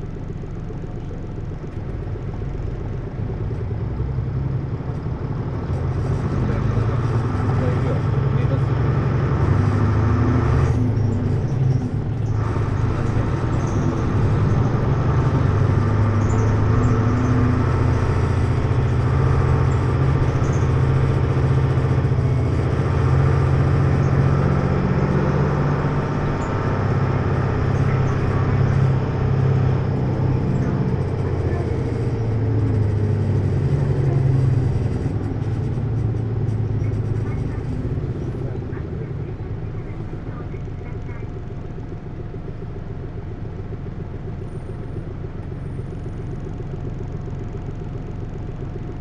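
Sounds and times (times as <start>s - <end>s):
bus diesel engine driving: 0.0s - 49.0s.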